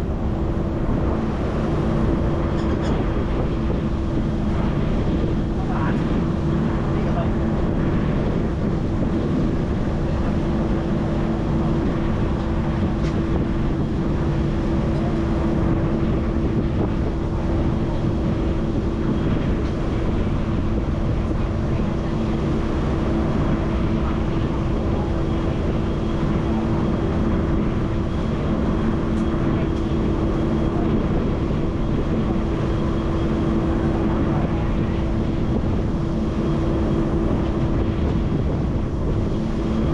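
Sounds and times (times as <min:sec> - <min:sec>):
ferry engines droning: 0:00.0 - 0:39.9
wind: 0:00.0 - 0:39.9.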